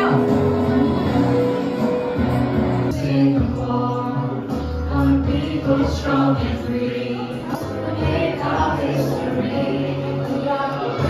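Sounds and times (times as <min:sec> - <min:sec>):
instrumental backing track: 0:00.0 - 0:11.0.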